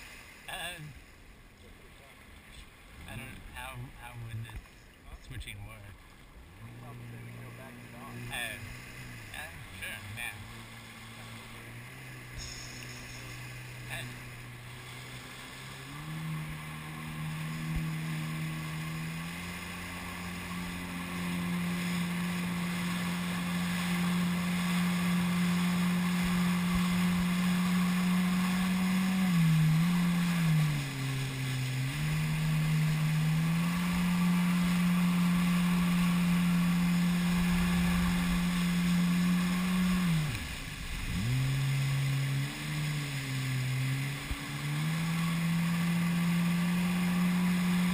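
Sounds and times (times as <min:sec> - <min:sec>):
jet ski engine running: 0:00.0 - 0:47.9
water and wind rushing: 0:00.0 - 0:47.9.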